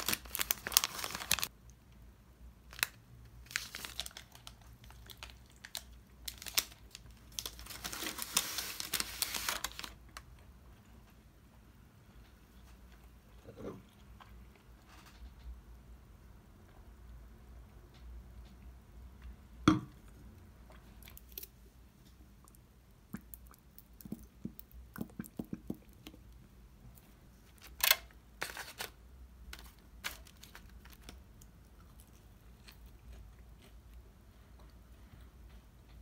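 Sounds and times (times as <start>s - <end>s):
faint steady low hum: 0.0s - 36.0s.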